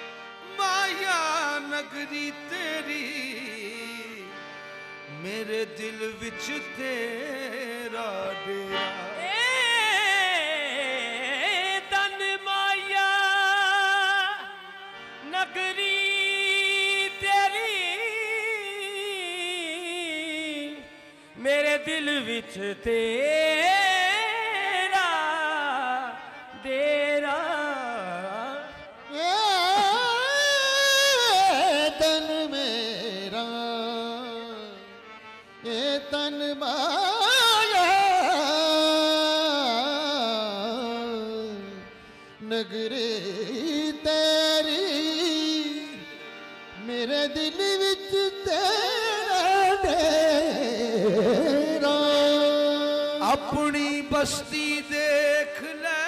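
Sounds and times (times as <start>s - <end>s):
man singing ornamented notes: 0.0s - 4.4s, 5.0s - 56.0s
harmonium: 0.0s - 56.0s.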